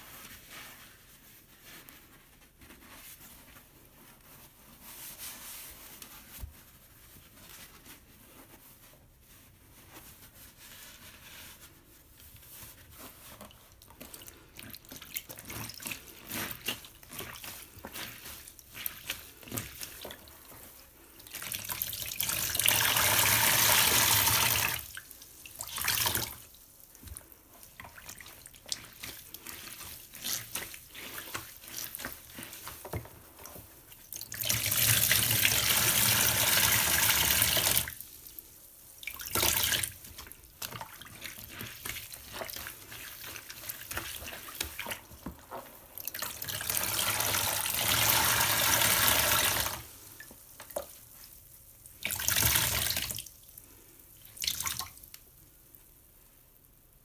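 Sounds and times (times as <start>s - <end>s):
wet foam sponge squelching: 0.0s - 55.8s.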